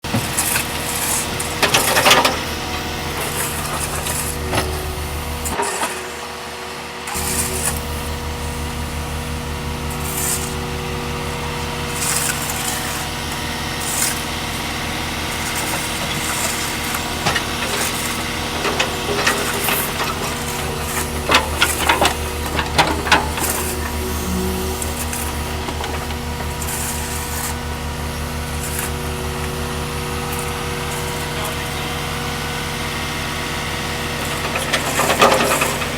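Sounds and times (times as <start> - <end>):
diesel machinery idling: 0.0 - 35.9.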